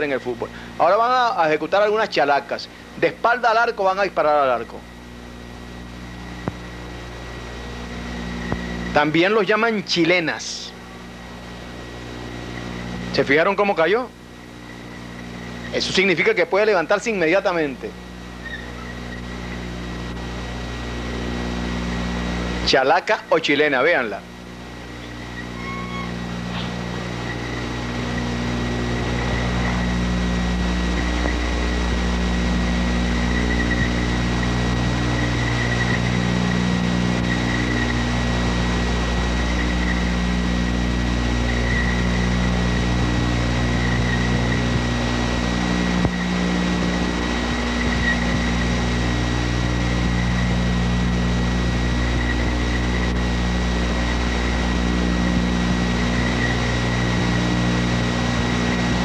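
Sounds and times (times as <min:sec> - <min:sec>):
background hiss: 0:00.0 - 0:59.0
held low tones: 0:00.0 - 0:59.0
low hum and drone: 0:00.0 - 0:59.0
thin high whine: 0:00.0 - 0:59.0.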